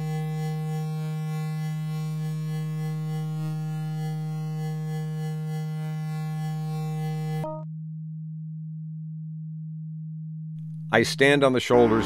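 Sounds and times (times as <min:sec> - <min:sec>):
steady low synthesized tone: 0:00.0 - 0:12.0.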